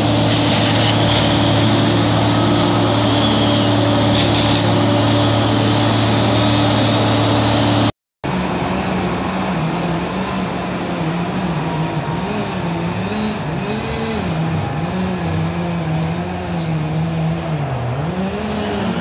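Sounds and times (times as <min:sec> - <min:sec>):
engine-driven machinery running: 0:00.0 - 0:19.0.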